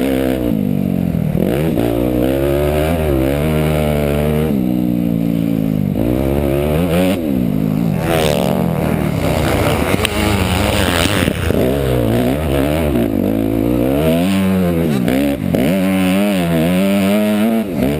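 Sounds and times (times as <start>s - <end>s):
motocross bike engine revving: 0.0s - 17.9s.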